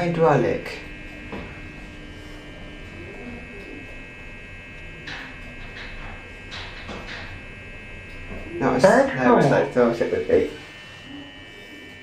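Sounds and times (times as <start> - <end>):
lift drive whine: 0.0 - 12.0.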